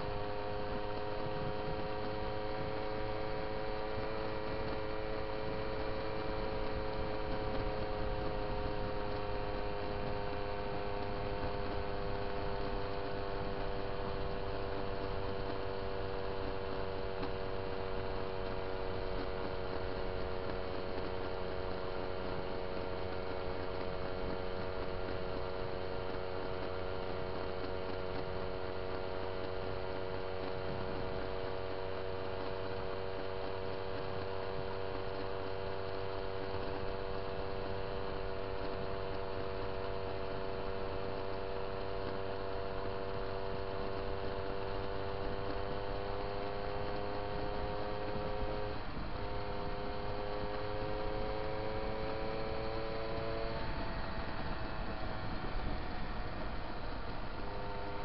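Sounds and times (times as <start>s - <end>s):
moped engine buzzing: 0.0s - 58.0s.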